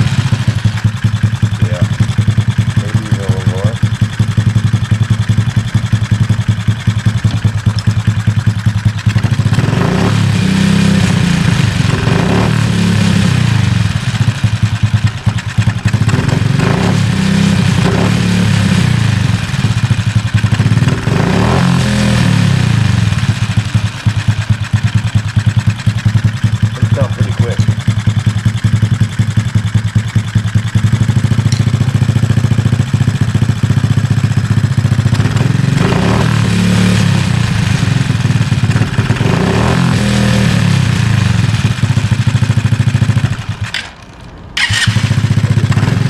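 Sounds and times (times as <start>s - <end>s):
motorbike engine idling and revving: 0.0s - 46.0s.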